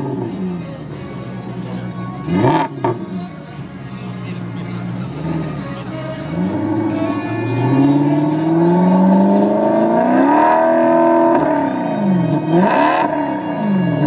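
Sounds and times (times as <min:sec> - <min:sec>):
car engine revving: 0:00.0 - 0:03.4, 0:04.0 - 0:14.0.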